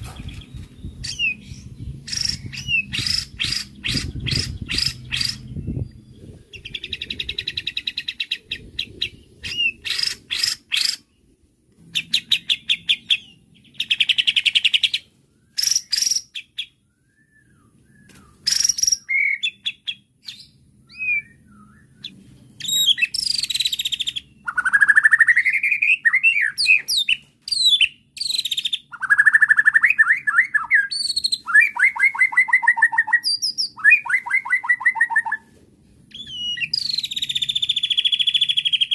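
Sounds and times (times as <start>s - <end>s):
bird singing varied song: 0.0s - 35.5s, 36.1s - 38.9s.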